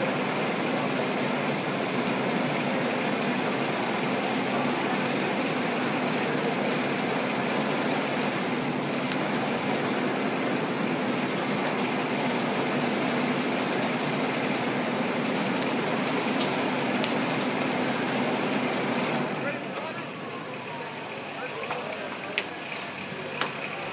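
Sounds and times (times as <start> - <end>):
fire truck engines running: 0.0 - 23.9.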